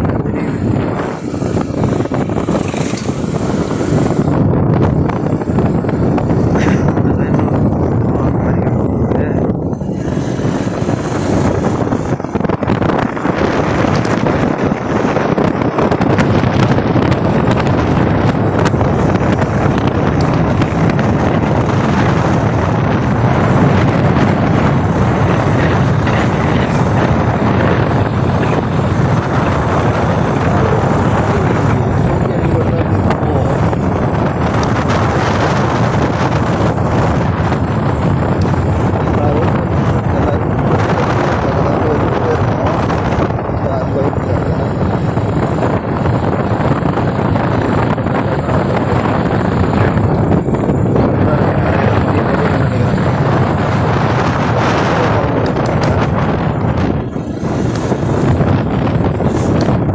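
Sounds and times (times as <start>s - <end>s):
motorbike engine: 0.0s - 59.9s
road noise: 0.0s - 59.9s
wind on microphone: 0.0s - 59.9s.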